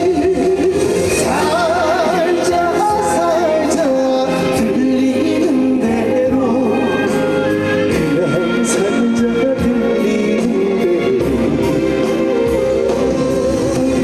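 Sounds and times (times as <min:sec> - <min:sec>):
instrumental accompaniment: 0:00.0 - 0:14.0
man singing with vibrato: 0:00.0 - 0:14.0.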